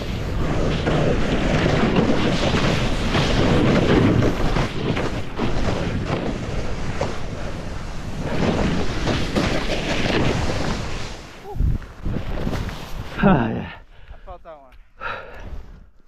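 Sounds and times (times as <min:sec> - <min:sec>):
snowboard scraping through snow: 0:00.0 - 0:13.8
wind rushing over microphone: 0:00.0 - 0:14.2.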